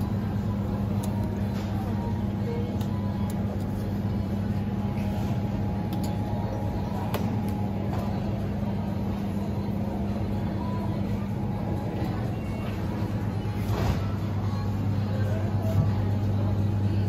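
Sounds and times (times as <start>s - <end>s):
refrigerator fans and compressor humming: 0.0s - 17.0s.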